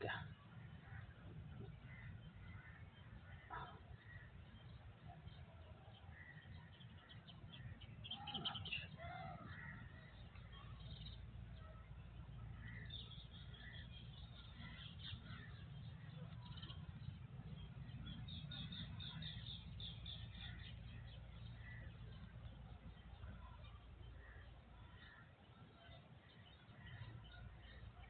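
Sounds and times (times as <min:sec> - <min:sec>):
faint bird chirping: 0:00.0 - 0:28.0
low steady hum: 0:00.0 - 0:28.0.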